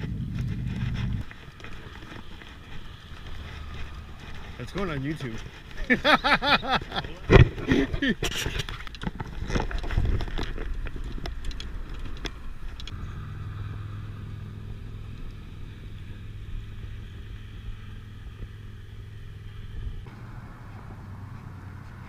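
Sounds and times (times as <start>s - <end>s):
low engine hum: 0.0s - 7.8s, 9.6s - 22.0s.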